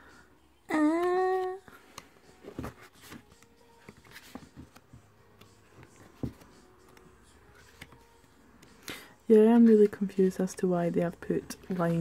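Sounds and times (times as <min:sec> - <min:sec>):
paper pages rustling: 0:01.4 - 0:10.6, 0:11.4 - 0:12.0.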